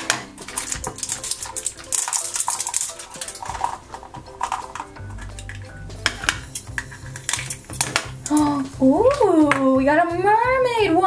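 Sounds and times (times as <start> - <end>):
plastic wrap crinkling: 0.0 - 9.3.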